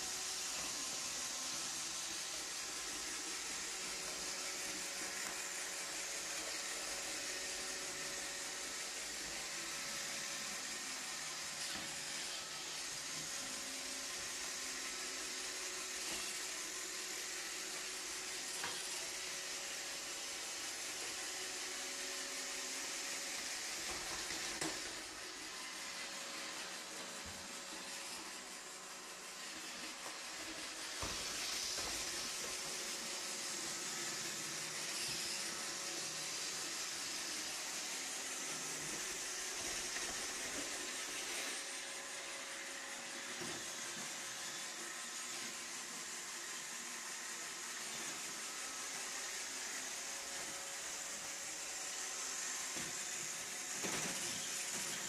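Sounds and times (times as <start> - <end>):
robot vacuum running: 0.0 - 55.0.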